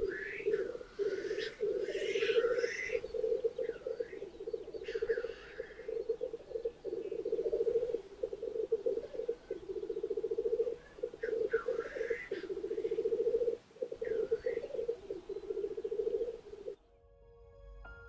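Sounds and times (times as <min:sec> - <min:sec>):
grouse bubbling song: 0:00.0 - 0:16.8.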